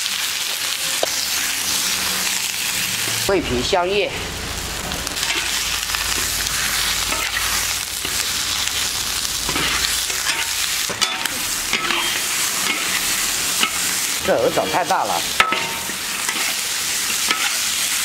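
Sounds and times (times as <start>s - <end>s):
meat sizzling in a wok: 0.0s - 18.0s
metal spatula scraping a wok: 0.2s - 3.2s, 5.2s - 18.0s.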